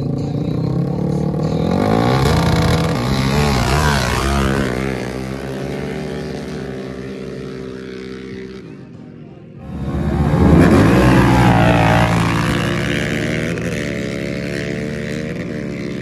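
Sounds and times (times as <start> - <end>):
quad bike engines revving: 0.0 - 16.0.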